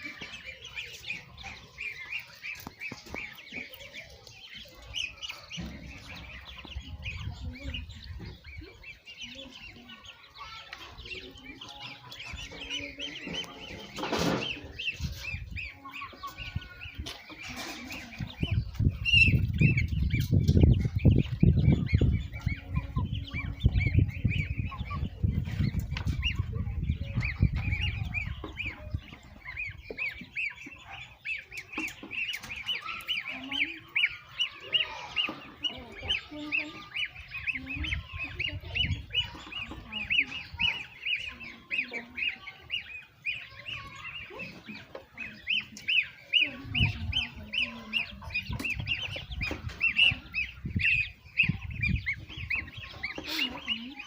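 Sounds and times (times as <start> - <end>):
ducklings and goslings peeping: 0.0 - 54.0.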